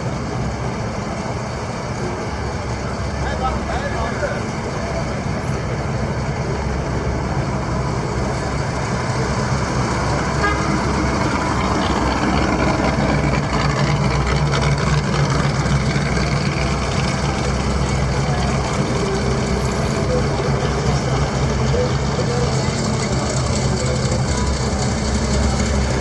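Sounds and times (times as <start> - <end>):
car engines in slow traffic: 0.0 - 26.0.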